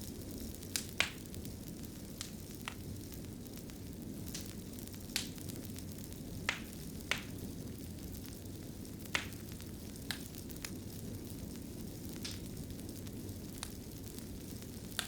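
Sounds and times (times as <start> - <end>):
fire crackles and pops: 0.0 - 15.0
wood fire burning: 0.0 - 15.0.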